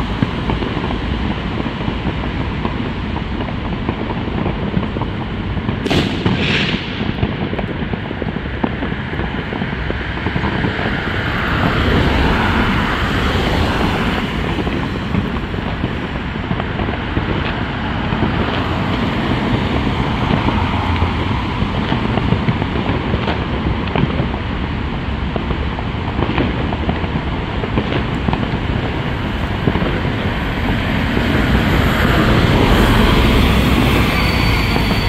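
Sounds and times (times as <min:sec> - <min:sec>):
distant firework cracks: 0:00.0 - 0:34.1
wind rushing over microphone: 0:00.0 - 0:35.0.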